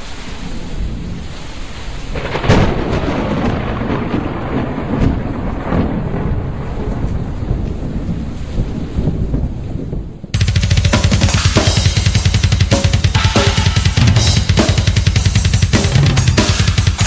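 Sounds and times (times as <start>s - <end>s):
steady rain hiss: 0.0s - 17.0s
thunder cracks: 2.1s - 17.0s.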